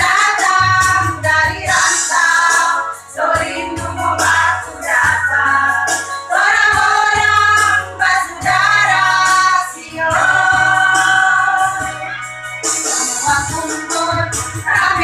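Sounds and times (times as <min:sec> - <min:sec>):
women's choir singing: 0:00.0 - 0:12.1, 0:13.3 - 0:15.0.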